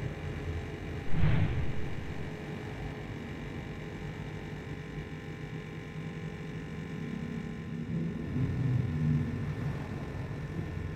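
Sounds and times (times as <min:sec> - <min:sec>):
low electrical hum: 0:00.0 - 0:10.9.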